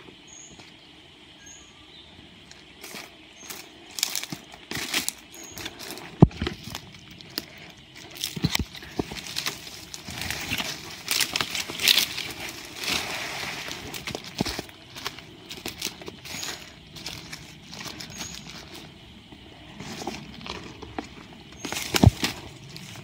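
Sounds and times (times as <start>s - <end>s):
footsteps crunching through dry leaves: 2.5s - 23.0s
undergrowth brushing: 2.8s - 23.0s.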